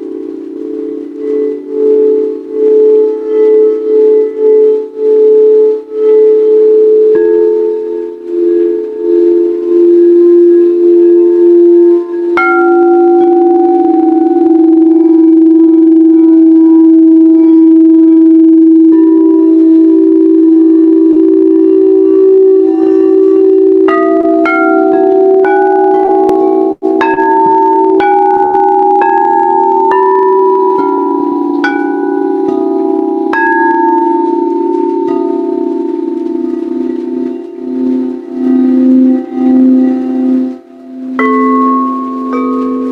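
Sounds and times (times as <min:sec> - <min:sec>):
singing bowls low hum: 0:00.0 - 0:42.9
struck bowl ringing: 0:00.0 - 0:42.9.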